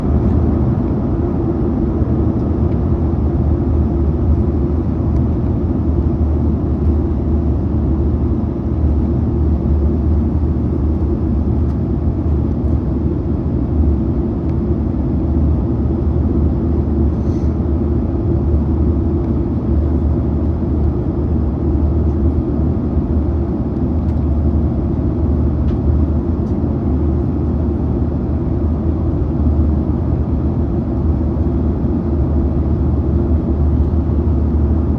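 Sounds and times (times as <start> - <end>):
airliner cabin engine roar: 0.0 - 34.9.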